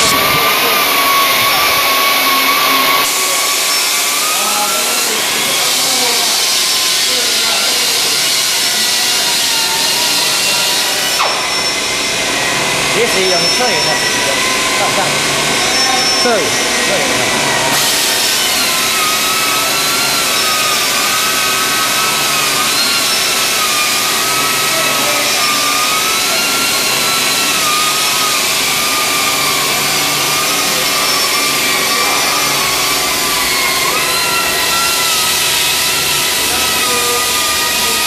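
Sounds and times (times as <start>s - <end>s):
pneumatic polisher whining: 0.0s - 38.0s.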